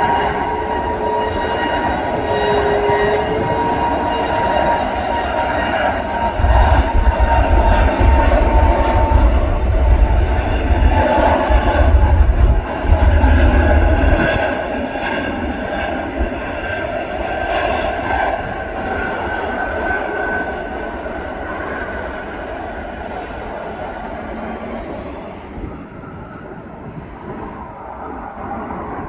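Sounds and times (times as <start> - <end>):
jet airliner engines roaring: 0.0 - 29.0.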